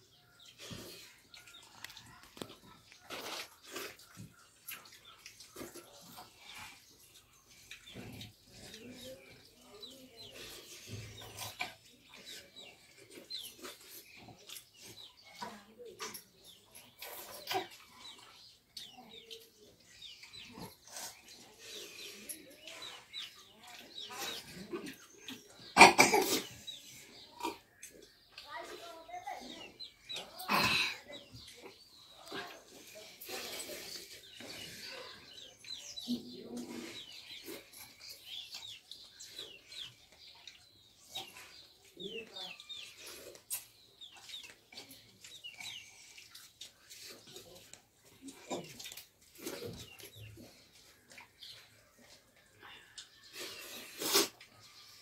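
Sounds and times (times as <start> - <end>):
chicks peeping: 0.0 - 30.4, 31.0 - 55.0
eating from steel plates: 0.0 - 55.0.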